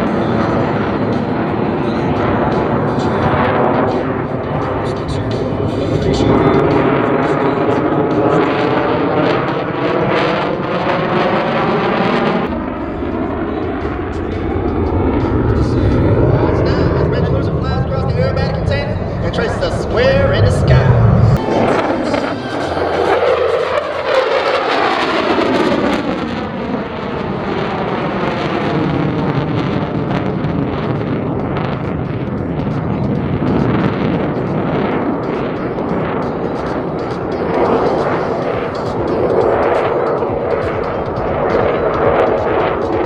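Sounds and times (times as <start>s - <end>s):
crackling jet engine roar: 0.0s - 43.0s.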